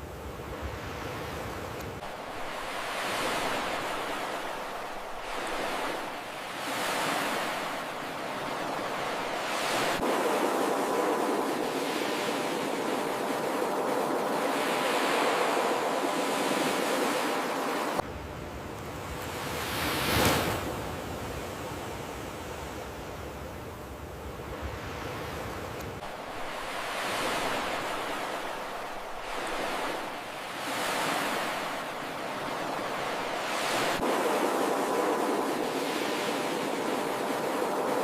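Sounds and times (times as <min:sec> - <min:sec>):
ocean waves breaking: 0:00.0 - 0:18.0, 0:24.4 - 0:38.0.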